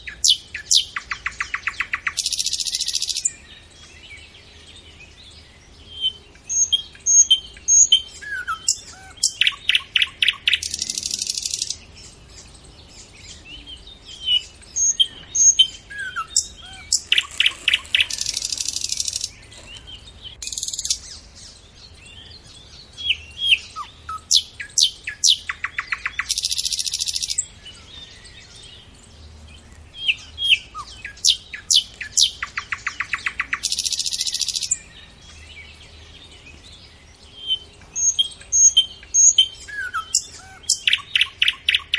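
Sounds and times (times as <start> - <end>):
bird singing with trills: 0.0 - 41.9.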